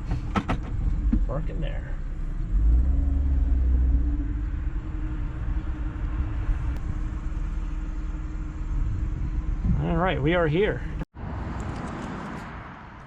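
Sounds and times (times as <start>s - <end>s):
road rumble inside car: 0.0s - 11.8s
car engine rumble: 0.0s - 13.0s.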